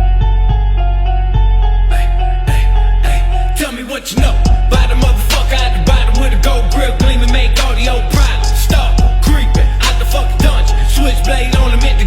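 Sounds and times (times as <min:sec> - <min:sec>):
hip hop music with heavy bass: 0:00.0 - 0:12.0
vocals over beat: 0:01.9 - 0:12.0.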